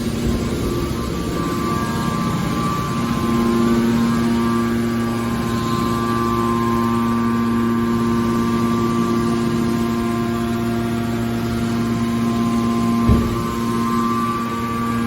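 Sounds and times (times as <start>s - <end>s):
machine hum with whine: 0.0s - 15.0s.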